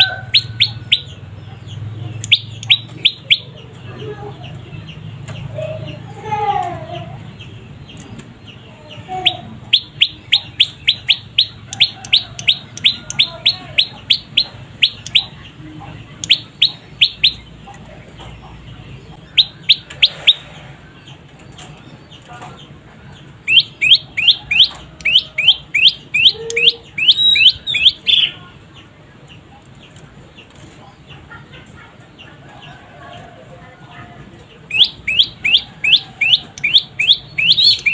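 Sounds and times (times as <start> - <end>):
songbird chirping: 0.0 - 37.9.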